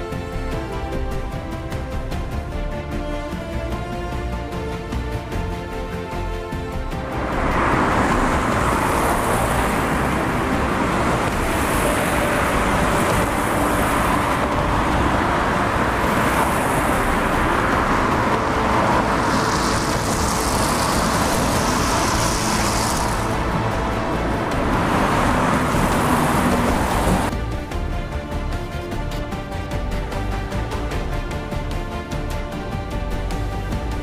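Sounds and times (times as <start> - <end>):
waterfall and rapids rushing: 3.9 - 33.0.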